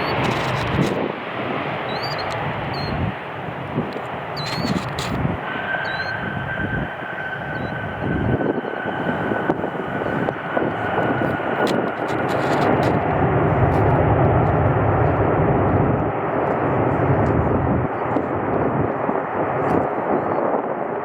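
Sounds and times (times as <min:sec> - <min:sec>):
high jet whine: 0:00.0 - 0:21.0
jet airliner roar: 0:00.0 - 0:21.0.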